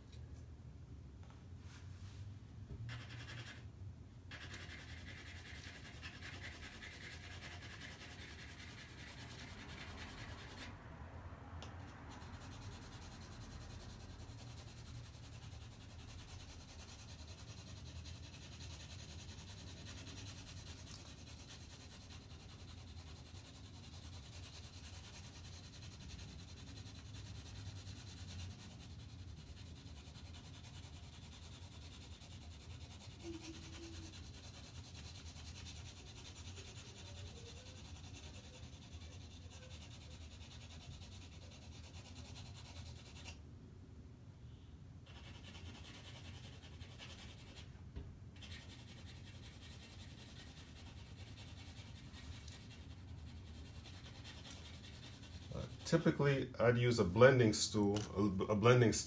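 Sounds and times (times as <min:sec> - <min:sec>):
pencil scratching on paper: 0:02.9 - 0:03.7, 0:04.3 - 0:10.7, 0:11.8 - 0:43.4, 0:45.0 - 0:47.7, 0:48.4 - 0:57.9.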